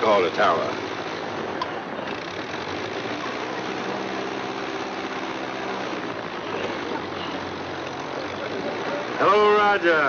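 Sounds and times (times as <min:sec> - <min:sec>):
propeller plane engine idling: 0:00.0 - 0:10.0.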